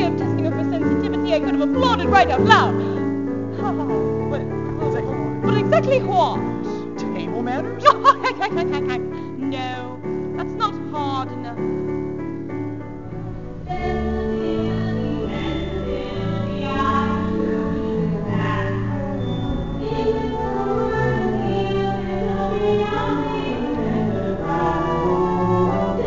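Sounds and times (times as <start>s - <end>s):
singing with musical accompaniment: 0.0s - 11.8s, 12.4s - 26.0s.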